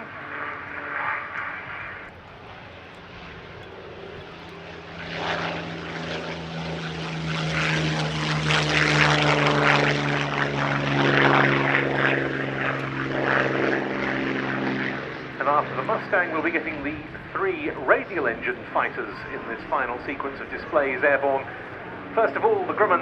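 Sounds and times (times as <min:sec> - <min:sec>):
propeller plane engine passing: 0:00.0 - 0:23.0.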